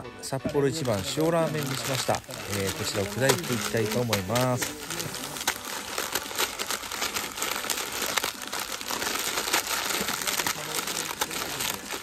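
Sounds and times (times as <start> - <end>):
dry noodles crackling: 0.0 - 12.0
plastic packet crinkling: 0.2 - 12.0.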